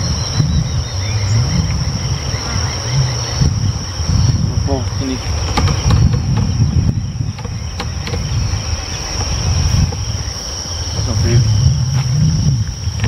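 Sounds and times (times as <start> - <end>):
high-pitched insect drone: 0.0 - 13.0
wind buffeting microphone: 0.0 - 13.0.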